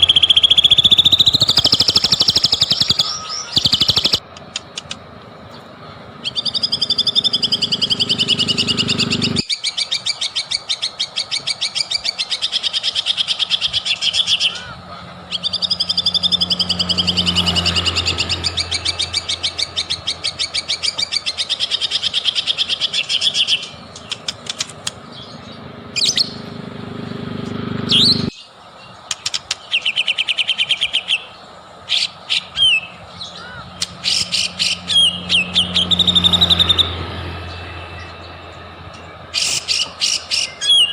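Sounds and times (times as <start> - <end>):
bird singing trills and whistles: 0.0 - 26.6, 27.8 - 40.9.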